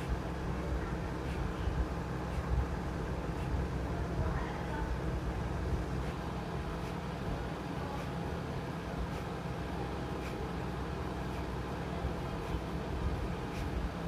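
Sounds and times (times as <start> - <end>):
steady low background hum: 0.0 - 14.0.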